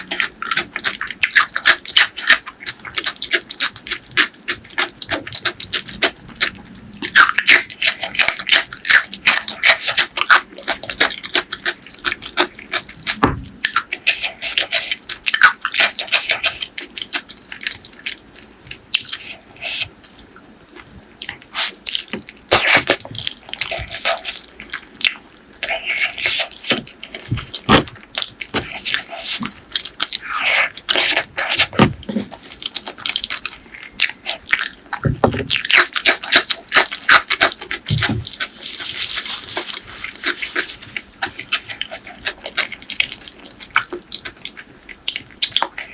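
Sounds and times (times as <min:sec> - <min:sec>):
wet chewing with smacks: 0:00.0 - 0:45.9.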